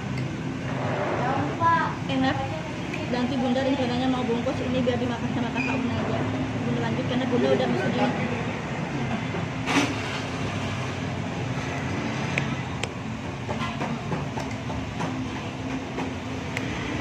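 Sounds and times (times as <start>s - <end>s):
background traffic rumble: 0.0s - 17.0s.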